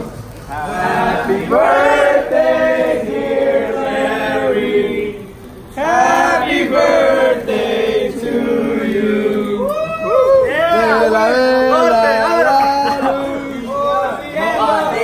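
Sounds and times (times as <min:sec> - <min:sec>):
group singing birthday song: 0:00.0 - 0:09.7, 0:10.6 - 0:15.0.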